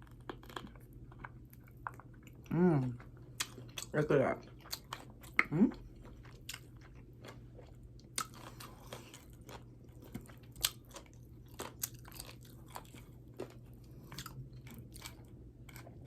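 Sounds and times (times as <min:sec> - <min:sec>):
faint steady hum: 0:00.0 - 0:16.0
person chewing food: 0:00.0 - 0:16.0.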